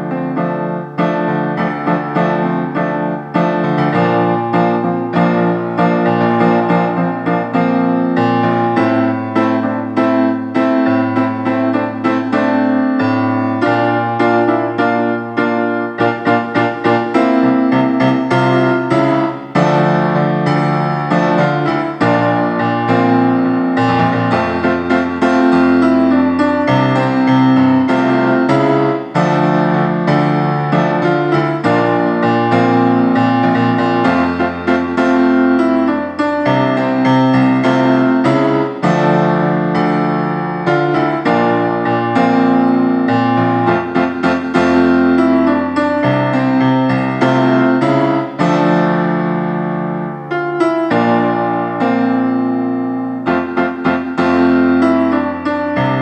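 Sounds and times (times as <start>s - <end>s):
piano chords: 0.0s - 56.0s.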